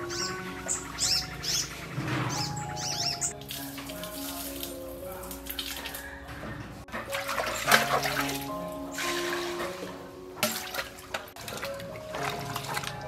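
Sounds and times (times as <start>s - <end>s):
background music with held notes: 0.0s - 13.0s
water pouring and splashing: 0.0s - 13.0s.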